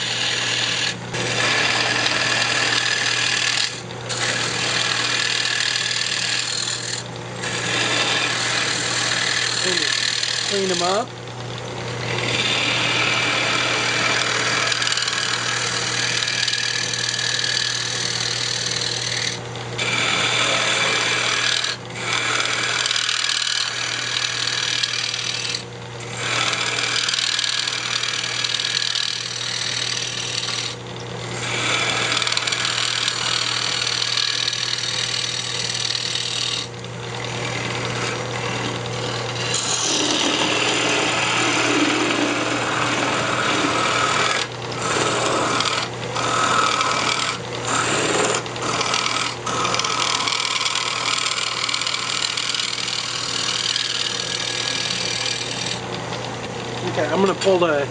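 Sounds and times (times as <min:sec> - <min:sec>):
lathe motor hum: 0:00.0 - 0:57.9
lathe tool cutting wood: 0:00.0 - 0:57.9.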